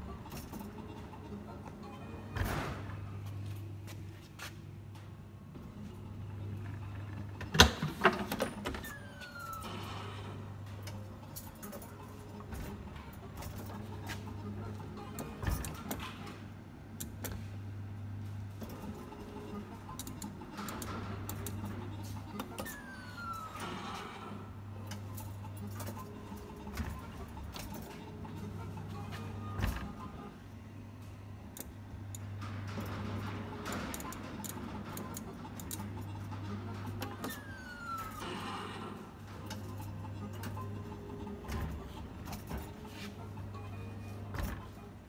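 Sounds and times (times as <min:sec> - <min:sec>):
low electrical hum: 0:00.0 - 0:45.0.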